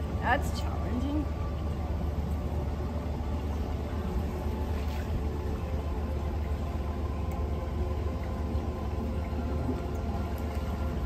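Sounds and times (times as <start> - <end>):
low rumble with faint hiss: 0.0 - 11.0.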